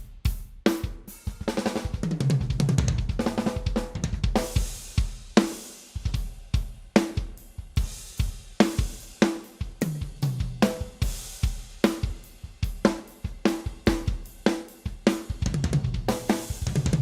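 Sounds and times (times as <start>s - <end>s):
bass drum and snare groove: 0.0s - 17.0s.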